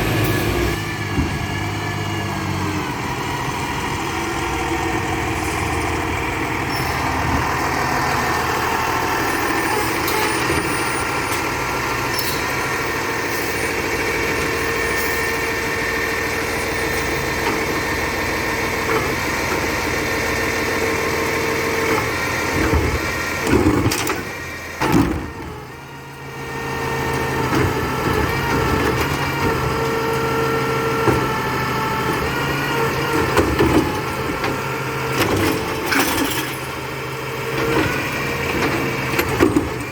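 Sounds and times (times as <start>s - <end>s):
recycling truck running: 0.0s - 39.9s.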